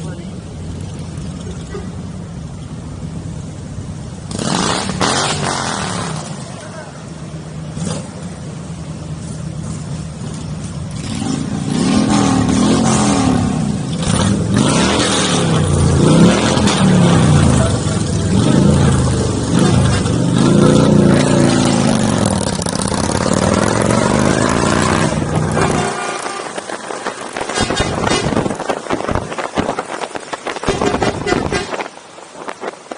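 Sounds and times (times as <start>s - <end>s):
motorcycle engines revving: 0.0s - 32.9s
steady rushing noise: 0.0s - 32.9s.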